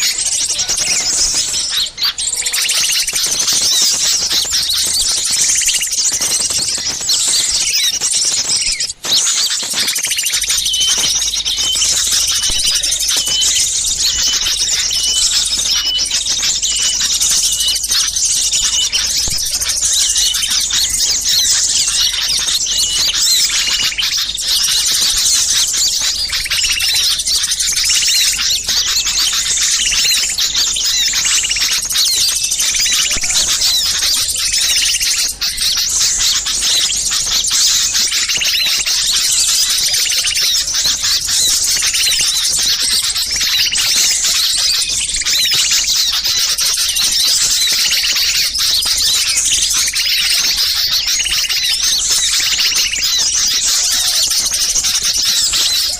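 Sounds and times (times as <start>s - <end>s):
songbirds alarm calls and chatter: 0.0s - 55.9s.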